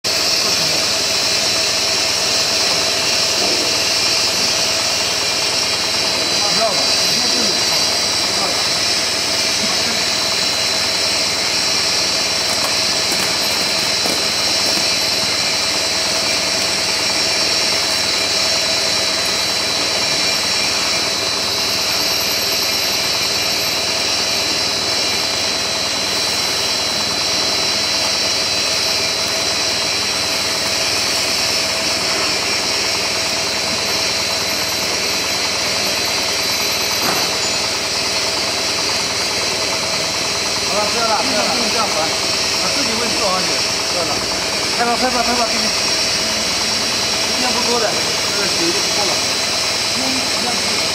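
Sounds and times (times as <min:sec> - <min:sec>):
high machine whine: 0:00.0 - 0:50.9
machine humming and hissing: 0:00.1 - 0:50.9.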